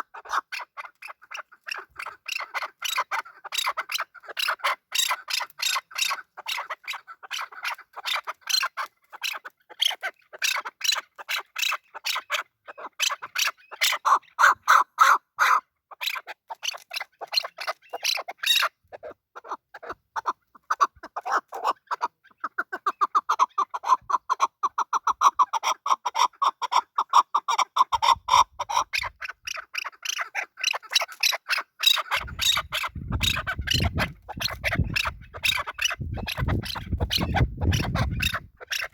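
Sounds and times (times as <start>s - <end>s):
partridge chuck calls: 0.0s - 38.9s.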